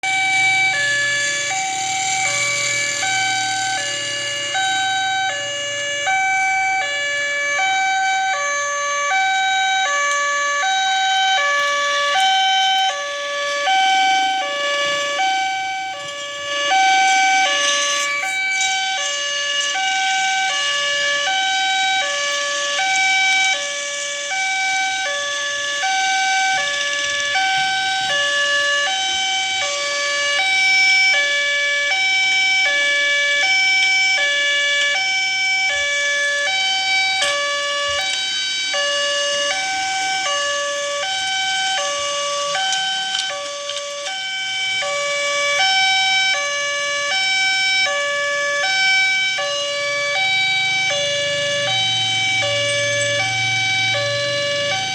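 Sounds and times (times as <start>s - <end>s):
two-tone level-crossing siren: 0.0s - 54.9s.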